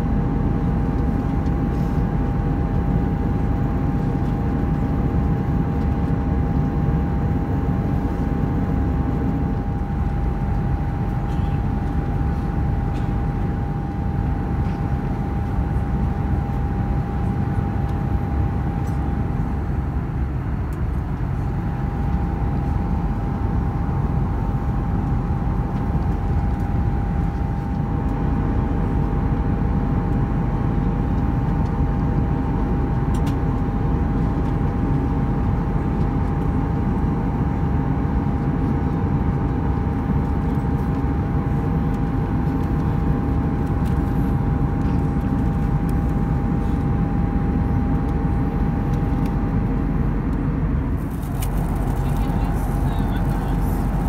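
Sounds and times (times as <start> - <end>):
aircraft cabin engine rush: 0.0 - 54.0.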